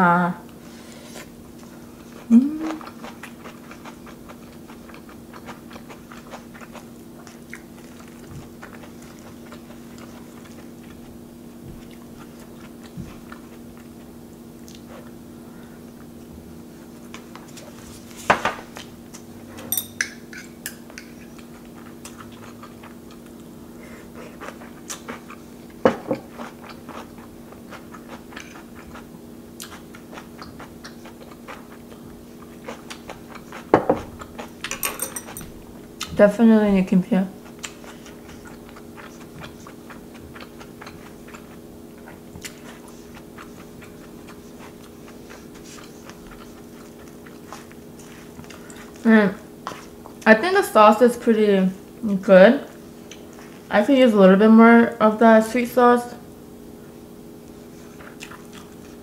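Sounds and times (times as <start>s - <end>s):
chewing rice: 0.5s - 36.2s, 37.4s - 50.3s, 52.8s - 53.7s, 56.9s - 59.0s.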